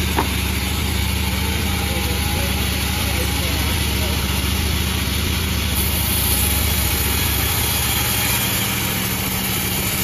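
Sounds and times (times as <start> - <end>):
sawmill engine humming: 0.0 - 10.0.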